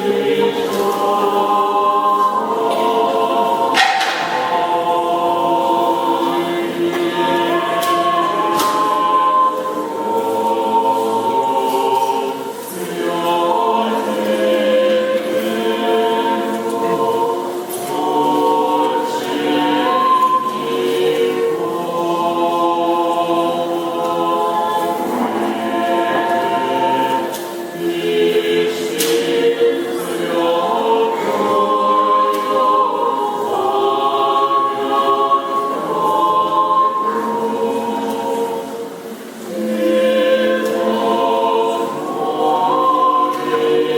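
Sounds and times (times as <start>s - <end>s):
unaccompanied choir chanting: 0.0s - 43.9s.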